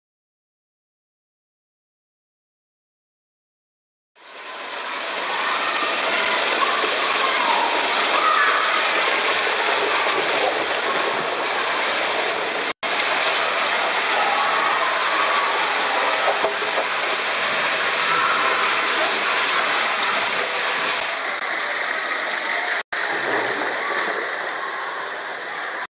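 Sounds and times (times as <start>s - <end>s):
water rushing through slide tube: 4.2s - 25.9s.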